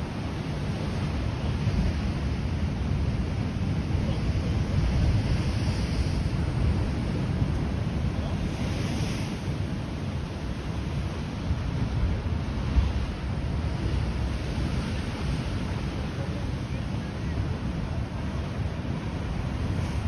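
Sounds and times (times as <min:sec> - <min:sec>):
surf washing over rocks: 0:00.0 - 0:20.0
wind rumbling on microphone: 0:00.0 - 0:20.0.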